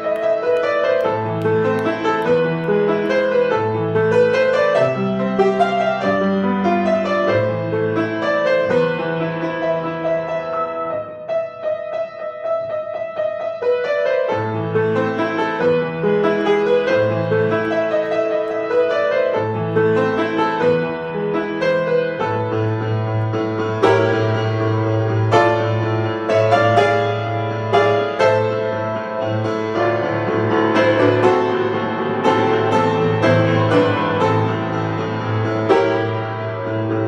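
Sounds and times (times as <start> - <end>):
solo piano: 0.0 - 37.0.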